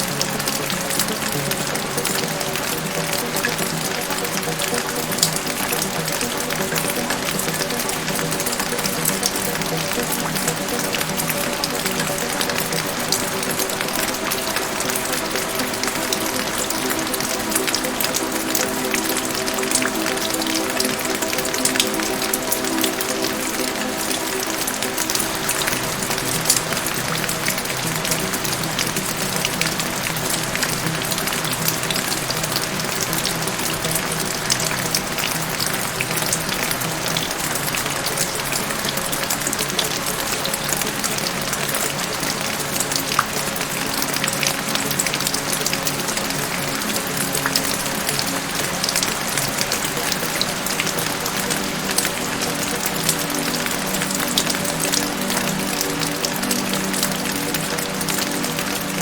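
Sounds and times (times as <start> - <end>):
soft background music: 0.0 - 59.0
steady rain: 0.0 - 59.0.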